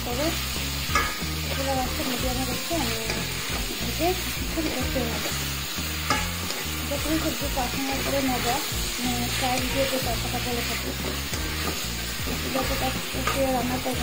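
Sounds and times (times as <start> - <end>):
background music: 0.0 - 14.0
vegetables sizzling in oil: 0.0 - 14.0
spatula stirring in pan: 0.1 - 14.0.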